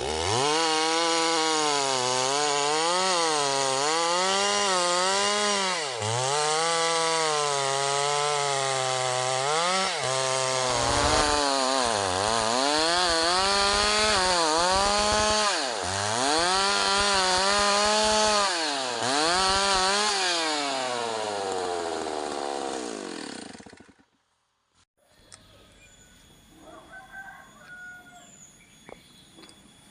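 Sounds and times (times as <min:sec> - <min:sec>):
chainsaw cutting wood: 0:00.0 - 0:24.3.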